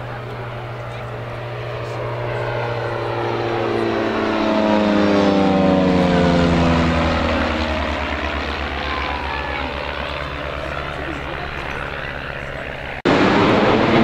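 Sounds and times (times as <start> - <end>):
aircraft flying past: 0.0 - 14.0.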